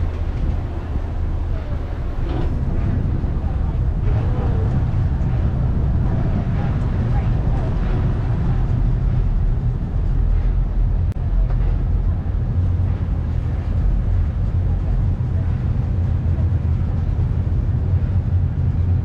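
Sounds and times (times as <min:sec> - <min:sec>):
ship engine rumbling: 0:00.0 - 0:19.0
wind and water noise: 0:00.0 - 0:19.0.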